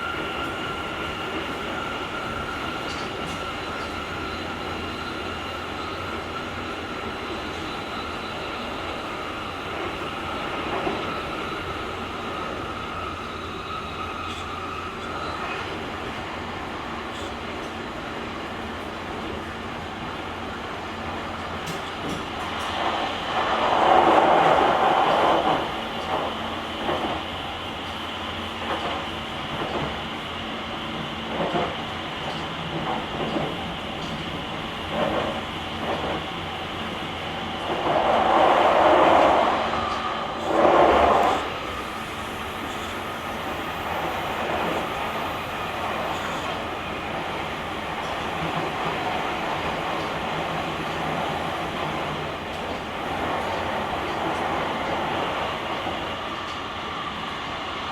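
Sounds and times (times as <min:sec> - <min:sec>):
train wheel and running noise: 0:00.0 - 0:57.9.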